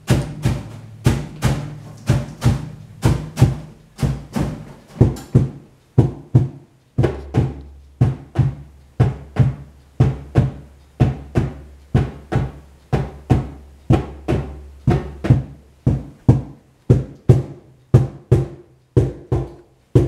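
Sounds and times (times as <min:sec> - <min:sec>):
hand drum strikes: 0:00.0 - 0:19.6.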